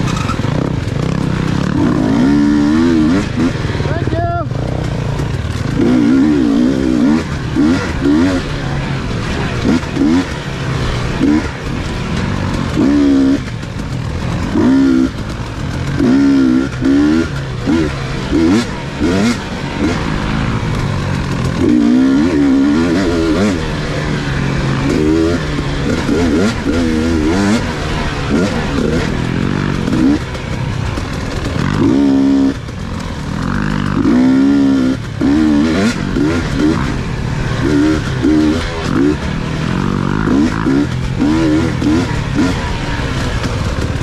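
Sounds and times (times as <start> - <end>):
motorcycle engine revving: 0.0 - 44.0
steady rushing noise: 0.0 - 44.0.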